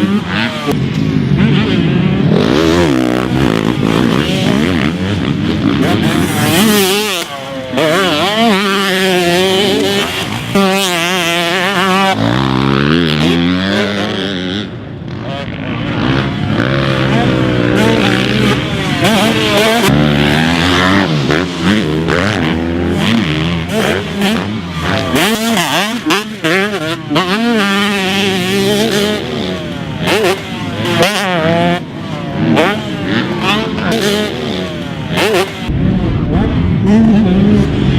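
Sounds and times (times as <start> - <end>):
motocross engine revving: 0.0 - 37.9.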